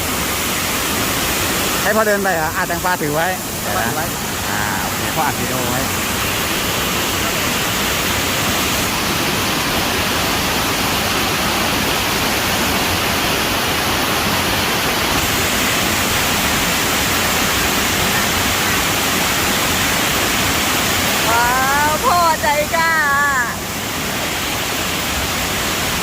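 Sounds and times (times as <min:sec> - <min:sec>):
waterfall splashing over rock: 0:00.0 - 0:26.0.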